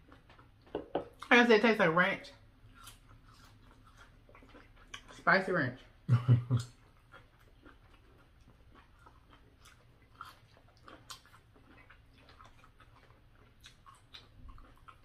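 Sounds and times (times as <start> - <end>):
chewing food: 0.0 - 1.3, 2.4 - 15.0.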